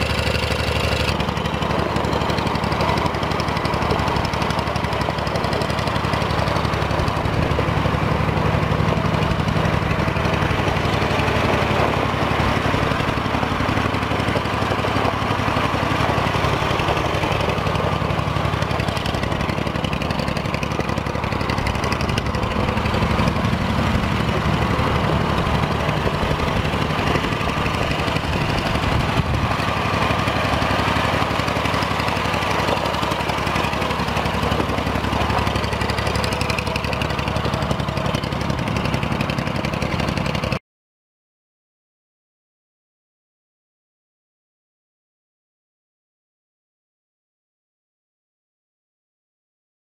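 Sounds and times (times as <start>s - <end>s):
tractor engine running: 0.0s - 40.6s.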